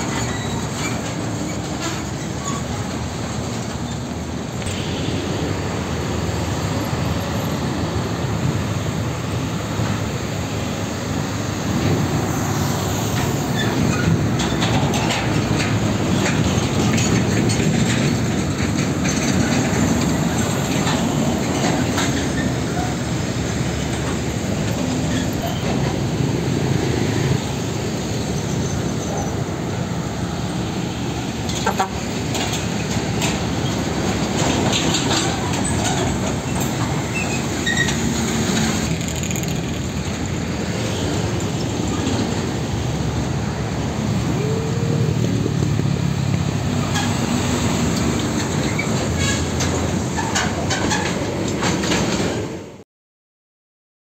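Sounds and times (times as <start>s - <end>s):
diesel truck engines: 0.0s - 52.8s
trailers rattling and clanking: 0.0s - 52.8s.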